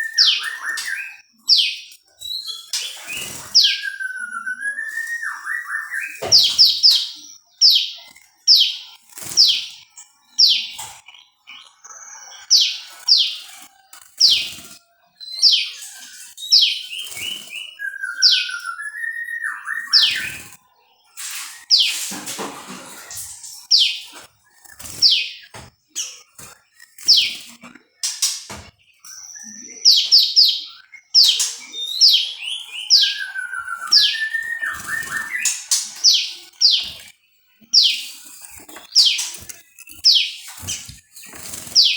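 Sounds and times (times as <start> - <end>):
songbird chirping: 0.0 - 41.9.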